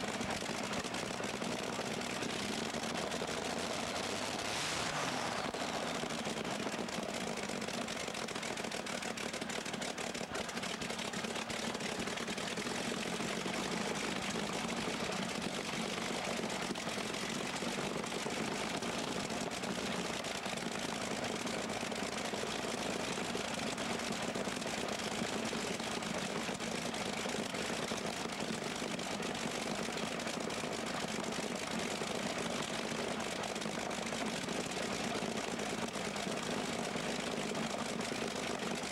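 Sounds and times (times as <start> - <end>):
tractor engine idling: 0.0 - 4.4, 5.2 - 38.9.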